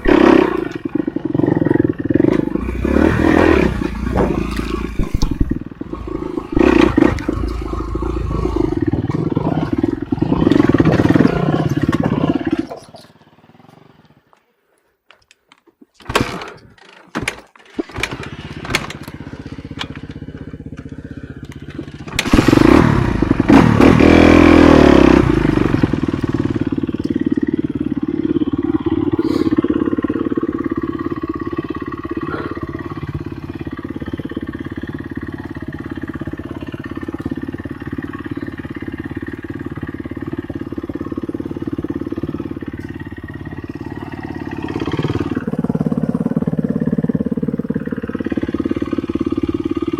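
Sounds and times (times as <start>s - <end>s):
motorcycle engine revving: 0.0s - 14.4s, 17.6s - 49.9s.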